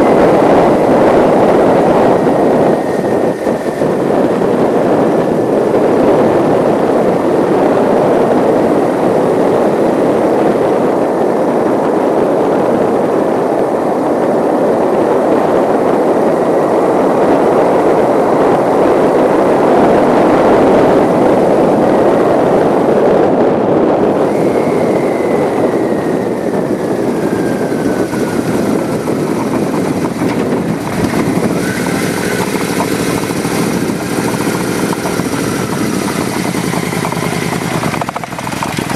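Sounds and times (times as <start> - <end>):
faint whine falling in pitch: 0.0 - 11.9, 14.9 - 34.5
rushing noise of moving bike: 0.0 - 38.9.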